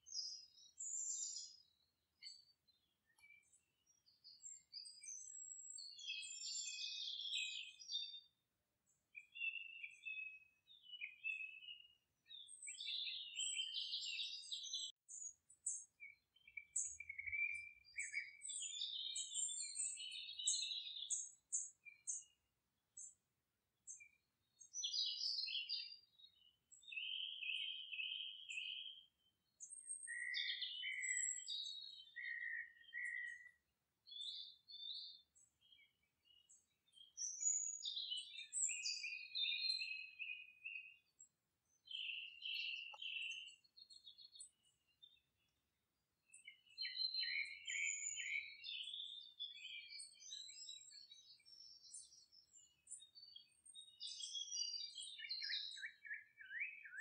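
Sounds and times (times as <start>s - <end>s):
birds calling and chirping: 0.0s - 8.3s, 9.2s - 22.4s, 23.9s - 29.0s, 29.6s - 45.2s, 46.3s - 57.0s.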